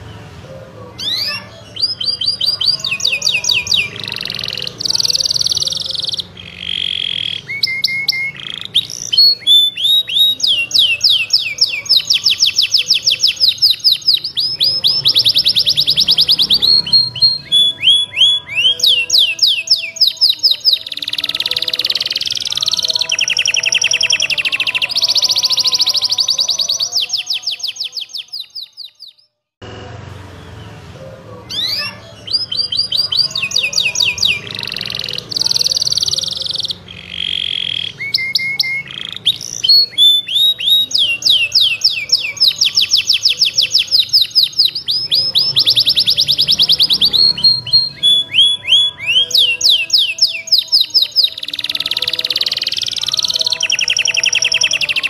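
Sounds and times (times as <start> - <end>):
canary singing trills: 0.0 - 29.3, 30.4 - 55.0.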